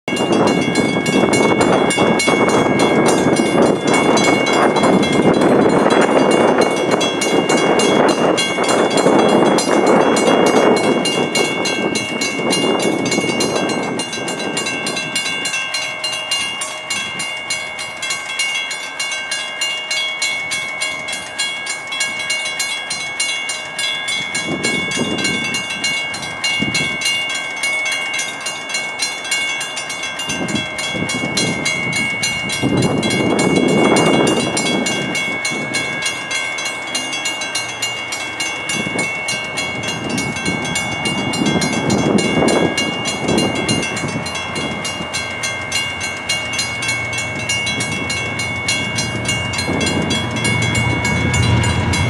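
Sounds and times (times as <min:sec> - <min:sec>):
railroad crossing bell ringing: 0:00.0 - 0:52.0.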